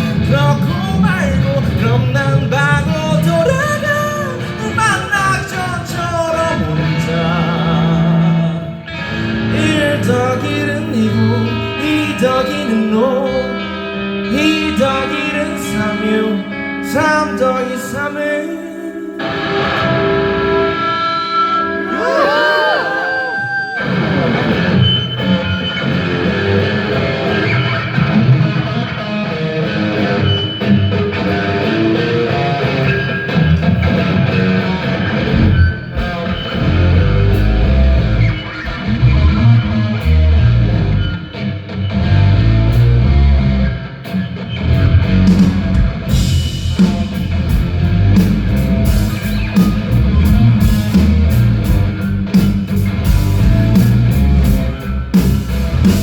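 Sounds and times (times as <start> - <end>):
rock band instrumental: 0.0 - 18.3, 19.1 - 56.0.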